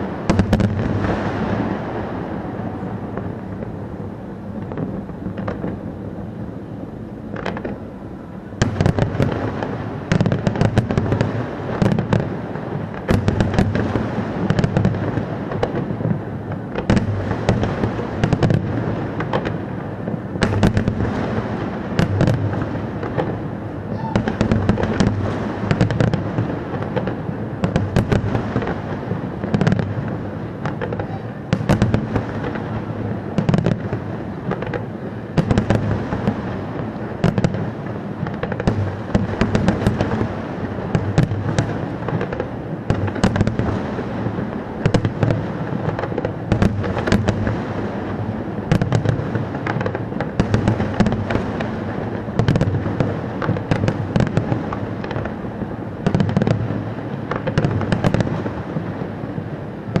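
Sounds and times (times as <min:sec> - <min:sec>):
fireworks bangs and cracks: 0:00.0 - 1:00.0.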